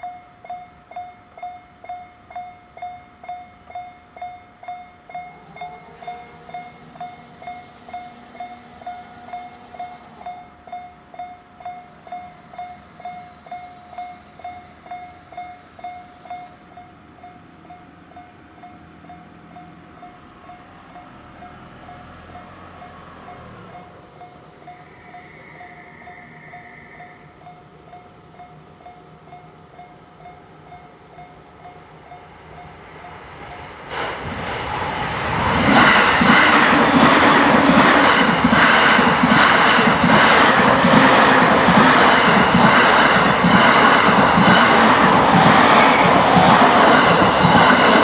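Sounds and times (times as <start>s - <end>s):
railroad crossing bell ringing: 0.0s - 33.9s, 35.6s - 48.0s
approaching train rumble: 0.0s - 48.0s.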